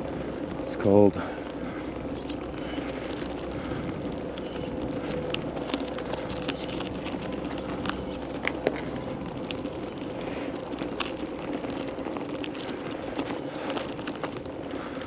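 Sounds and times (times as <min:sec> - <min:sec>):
bicycle clicks and rattles: 0:00.0 - 0:15.0
road noise: 0:00.0 - 0:15.0
wind noise: 0:01.2 - 0:15.0.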